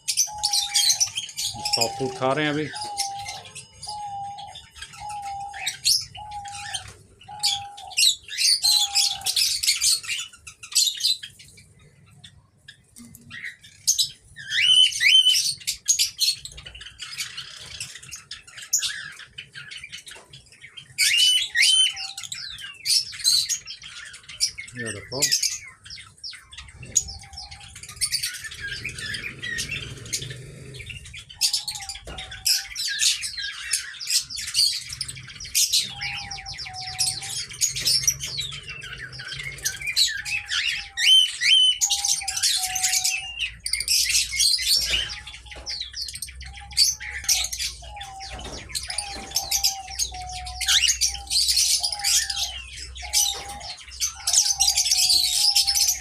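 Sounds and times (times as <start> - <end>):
cockatiels chirping and squawking: 0.0 - 56.0.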